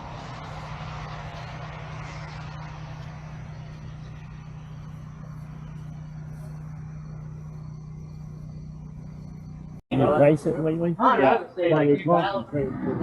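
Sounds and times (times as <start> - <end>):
low machine hum: 0.0 - 10.9.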